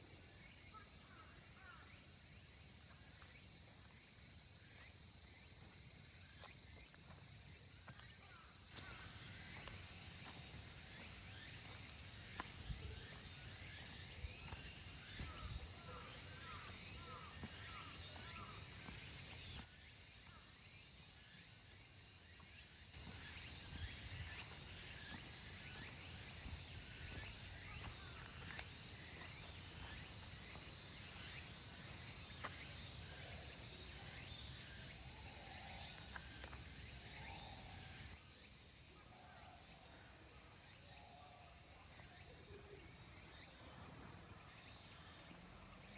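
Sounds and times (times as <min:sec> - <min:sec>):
insects singing: 0:00.0 - 0:45.9.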